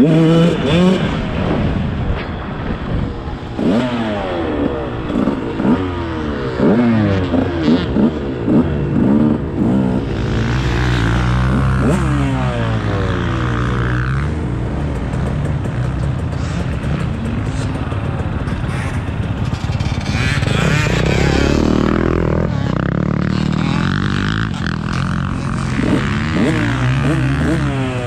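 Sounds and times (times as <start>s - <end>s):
dirt bike engine revving: 0.0s - 2.0s, 3.3s - 28.0s.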